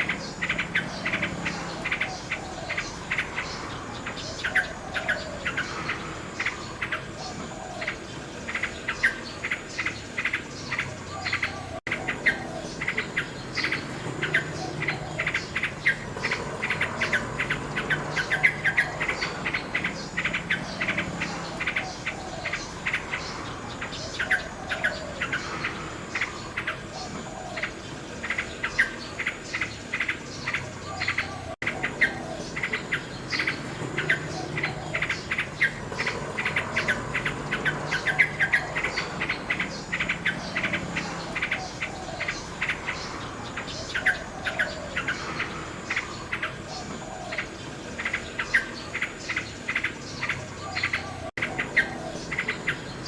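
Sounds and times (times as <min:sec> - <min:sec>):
background bird chirping: 0:00.0 - 0:53.0
nightingale singing: 0:00.0 - 0:53.0.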